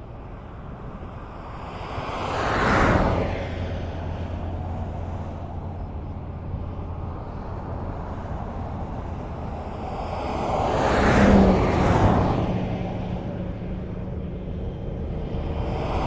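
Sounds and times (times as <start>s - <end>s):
highway traffic rumble: 0.0s - 16.0s
vehicle passing close by: 1.6s - 16.0s.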